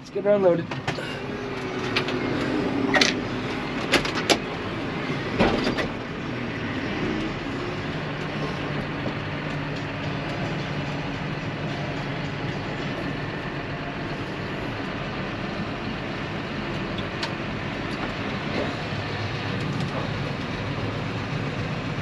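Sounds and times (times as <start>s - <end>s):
grain machinery humming: 0.0s - 22.0s.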